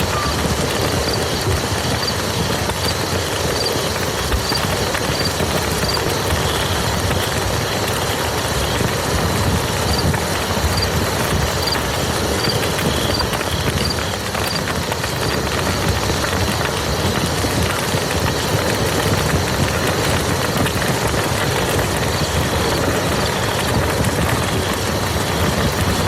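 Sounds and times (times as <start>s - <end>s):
rain falling on muddy ground: 0.0s - 26.0s.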